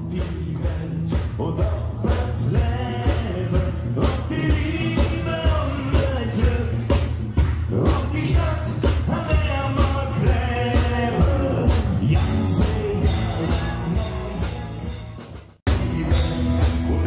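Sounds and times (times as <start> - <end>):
drum beat: 0.0 - 17.0
electric bass: 0.0 - 17.0
man singing: 0.0 - 17.0.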